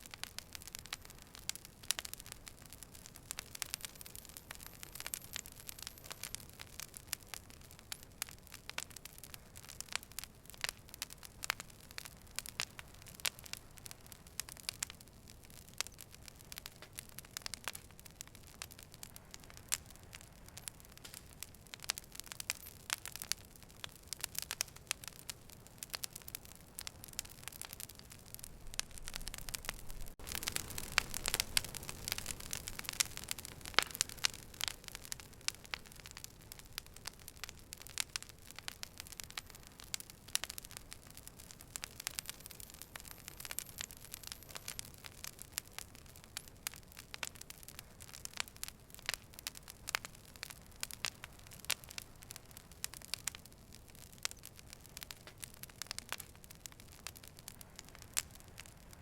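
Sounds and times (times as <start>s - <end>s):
fire crackling and popping: 0.0s - 59.0s
soft fire hiss: 0.0s - 59.0s.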